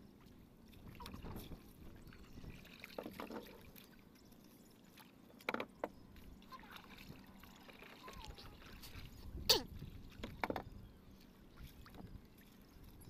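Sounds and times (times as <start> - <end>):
water splashing and dripping: 0.7 - 10.5, 11.2 - 13.0.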